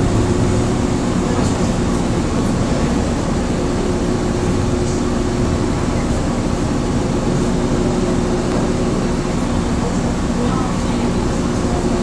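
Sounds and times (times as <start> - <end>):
train running rumble and hum: 0.0 - 12.0.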